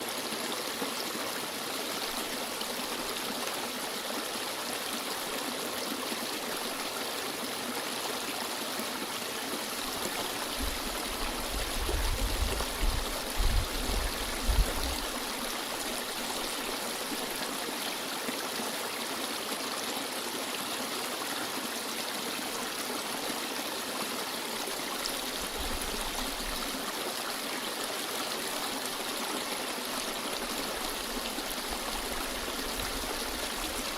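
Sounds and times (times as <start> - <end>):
stream flowing: 0.0 - 33.9.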